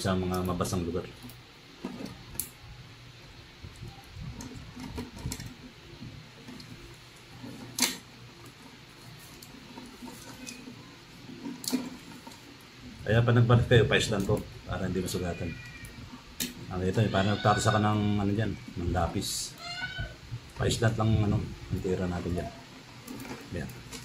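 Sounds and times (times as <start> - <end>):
stripping wire insulation: 0.0 - 2.7, 3.6 - 24.0.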